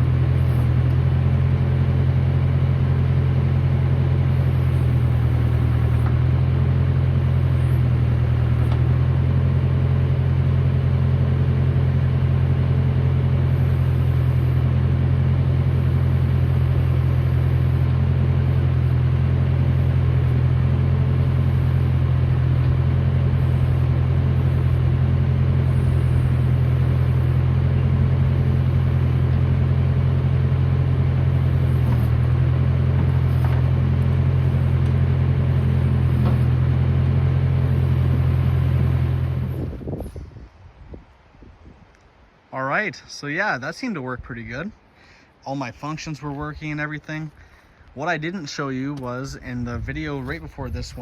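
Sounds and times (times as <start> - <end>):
loader engine running loudly: 0.0 - 40.4, 46.1 - 51.0.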